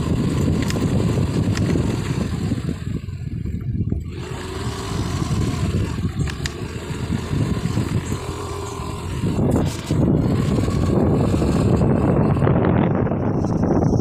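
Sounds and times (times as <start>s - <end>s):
vehicle engine running: 0.0s - 14.0s
wind buffeting microphone: 0.0s - 14.0s.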